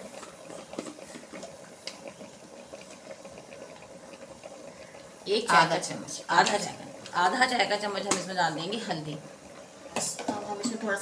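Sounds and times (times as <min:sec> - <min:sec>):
oil and vegetables sizzling: 0:00.0 - 0:11.0.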